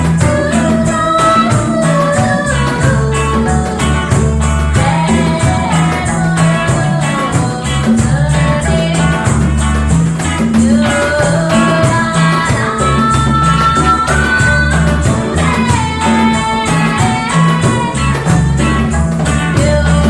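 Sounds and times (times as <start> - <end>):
person singing: 0.0 - 20.0
reggae band playing: 0.0 - 20.0.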